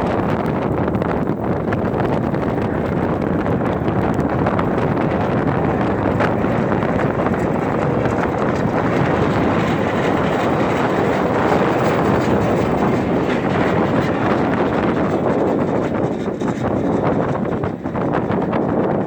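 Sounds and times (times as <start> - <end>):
storm wind roaring on microphone: 0.0 - 19.0.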